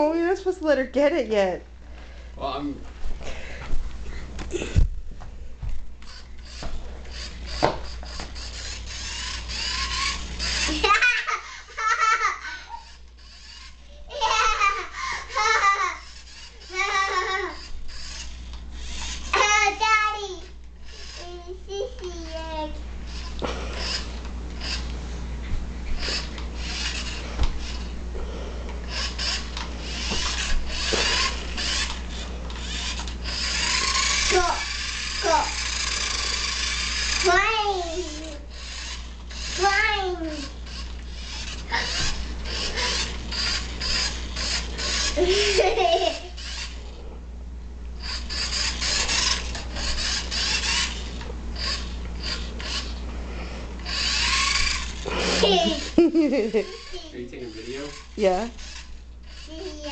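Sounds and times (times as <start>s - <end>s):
toy car motor rasping: 6.0s - 24.9s, 25.9s - 27.9s, 28.9s - 47.0s, 48.0s - 53.0s, 53.8s - 59.9s.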